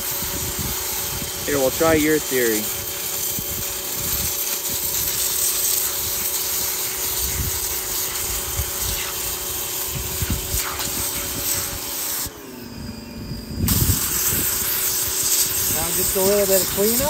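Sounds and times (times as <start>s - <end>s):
water jet spraying hiss: 0.0s - 12.3s, 13.7s - 17.0s
pressure washer pump humming: 0.0s - 17.0s.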